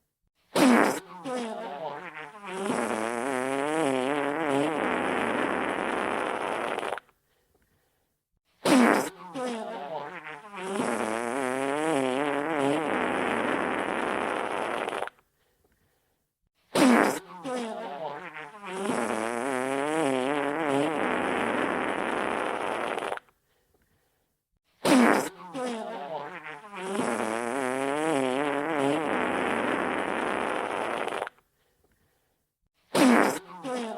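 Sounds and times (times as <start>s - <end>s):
wet sputtering fart: 0.5s - 7.1s, 8.6s - 15.2s, 16.7s - 23.3s, 24.8s - 31.4s, 32.9s - 33.9s.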